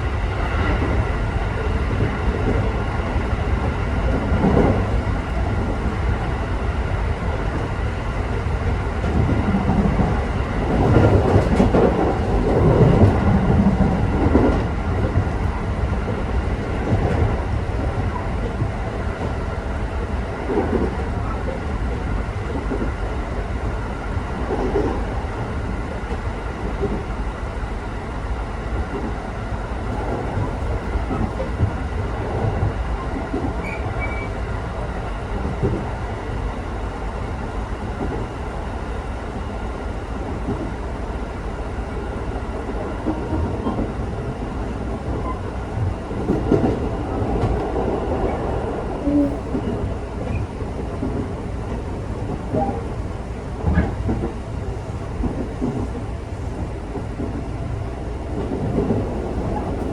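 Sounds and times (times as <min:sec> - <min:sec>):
train clattering over track: 0:00.0 - 0:07.8, 0:08.5 - 0:19.4, 0:20.0 - 0:27.2, 0:28.7 - 0:37.1, 0:40.2 - 0:59.9
train wheels rumbling on rail: 0:00.0 - 0:59.9.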